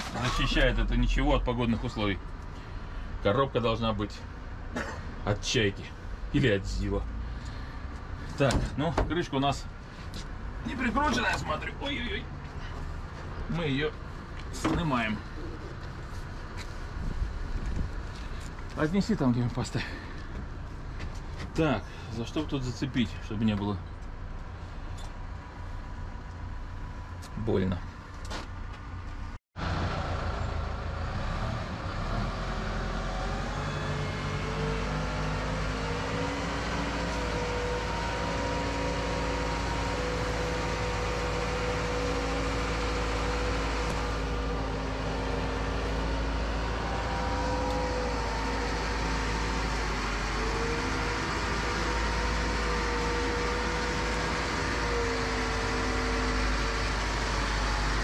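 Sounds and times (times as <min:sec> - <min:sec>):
diesel engine rumble with whine: 0:00.0 - 0:58.0.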